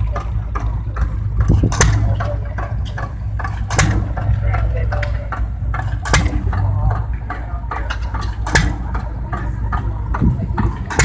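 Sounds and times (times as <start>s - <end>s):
sharp clicks and knocks: 0.0s - 11.0s
stationary gas engines humming: 0.0s - 11.0s.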